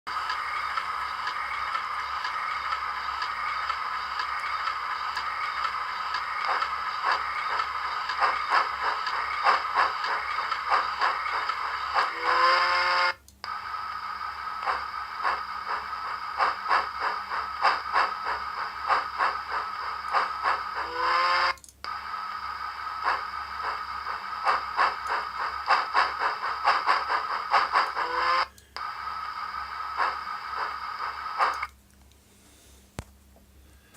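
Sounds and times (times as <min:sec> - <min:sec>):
model locomotive running sound: 0:00.1 - 0:31.7.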